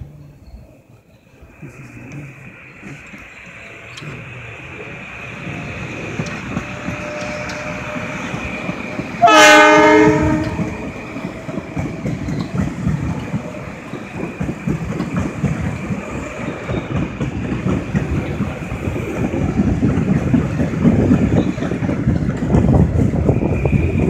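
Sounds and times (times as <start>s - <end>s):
train passing rumble: 0.0s - 24.0s
wheels clattering over rails: 2.0s - 24.0s.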